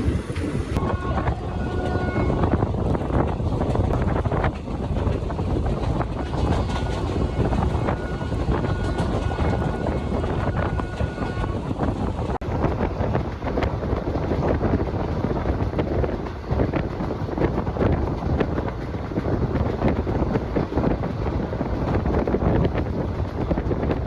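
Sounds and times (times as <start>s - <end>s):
moving train running noise: 0.0s - 24.0s
wind buffeting microphone: 0.0s - 24.0s.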